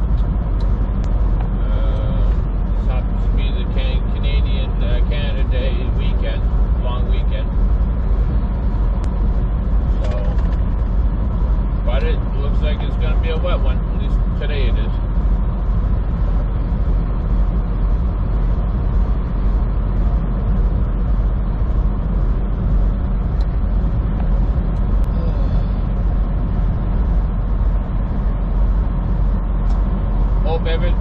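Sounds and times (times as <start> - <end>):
road noise: 0.0 - 31.0
truck engine drone: 0.0 - 31.0.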